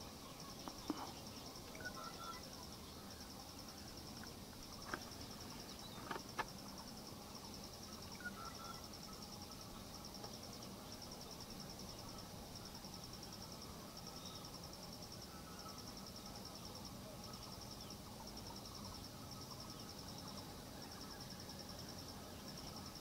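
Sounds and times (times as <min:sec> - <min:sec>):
faint outdoor background noise: 0:00.0 - 0:23.0
insect chirping fast: 0:00.0 - 0:23.0.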